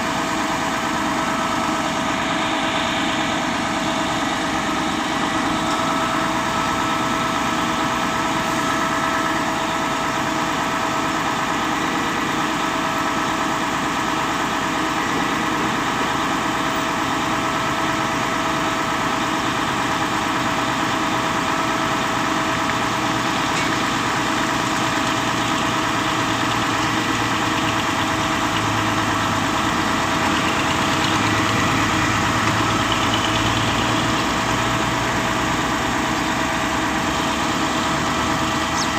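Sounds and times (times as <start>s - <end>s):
diesel engine running: 0.0s - 38.9s
steady whine: 0.0s - 38.9s.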